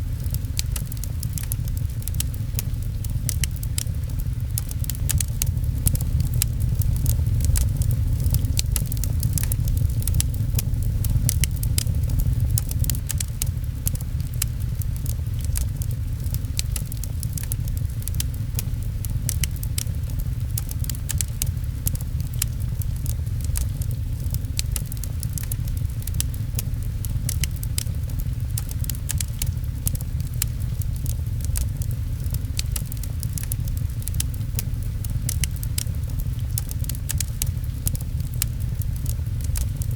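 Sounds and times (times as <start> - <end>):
rain rumbling: 0.0 - 39.9
wood fire crackling: 0.0 - 39.9.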